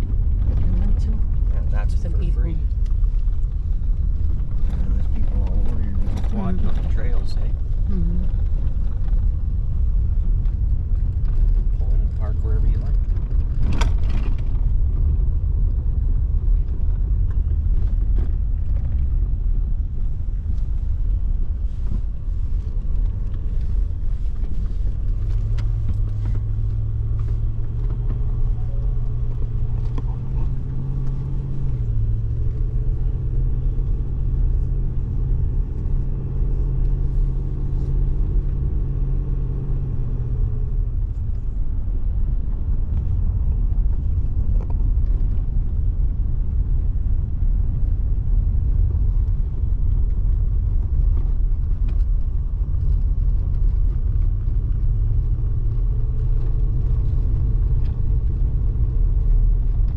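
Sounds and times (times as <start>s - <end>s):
engine hum: 0.0s - 59.9s
low road rumble: 0.0s - 59.9s.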